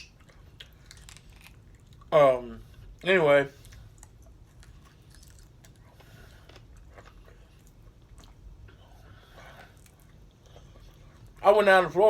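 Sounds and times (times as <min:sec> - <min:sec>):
chewing and crunching food: 0:00.0 - 0:11.6.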